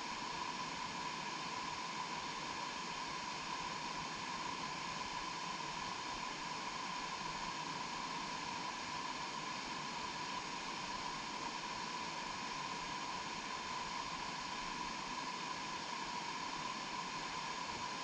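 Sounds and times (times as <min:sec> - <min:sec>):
faint constant tone: 0:00.0 - 0:18.0.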